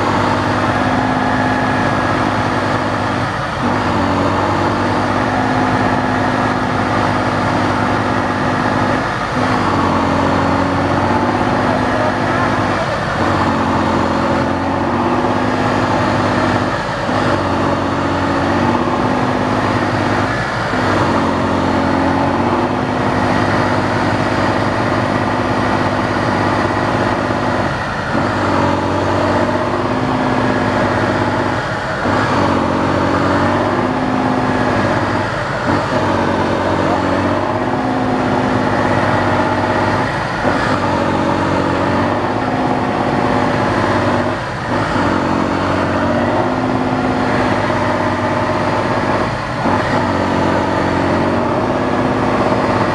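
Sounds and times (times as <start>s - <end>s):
truck diesel engine running hard: 0.0s - 52.9s.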